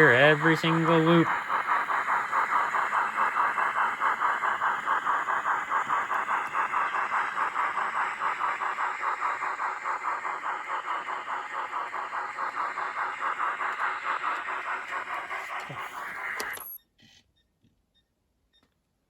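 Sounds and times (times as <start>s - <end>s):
model locomotive steam chuffing: 0.0s - 16.8s.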